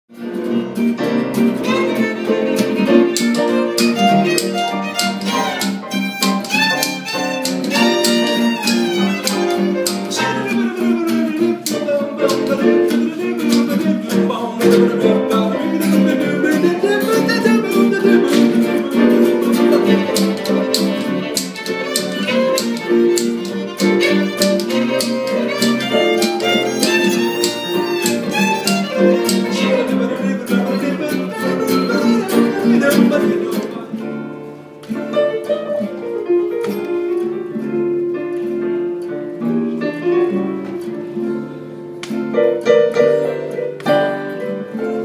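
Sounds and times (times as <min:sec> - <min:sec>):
strummed acoustic guitar: 0:00.1 - 0:45.0
violin melody: 0:00.2 - 0:38.2.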